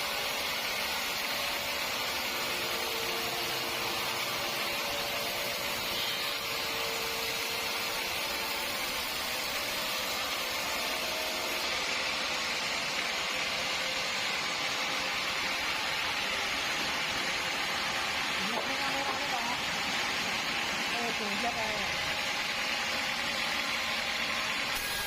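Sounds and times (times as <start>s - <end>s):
sawmill machinery hissing: 0.0s - 25.0s.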